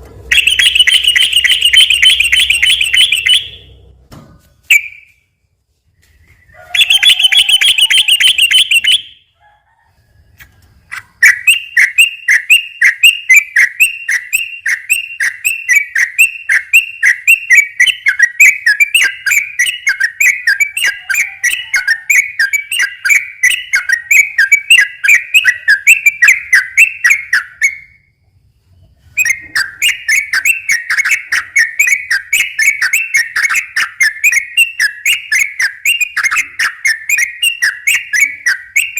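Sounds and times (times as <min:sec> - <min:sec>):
bulbul chattering song: 0:00.1 - 0:03.9, 0:06.1 - 0:09.3, 0:10.9 - 0:28.1, 0:29.1 - 0:38.9.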